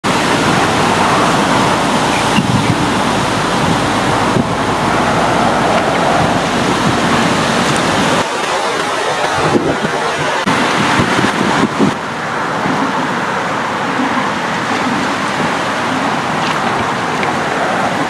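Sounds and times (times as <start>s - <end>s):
wind blowing over water: 0.0s - 18.0s.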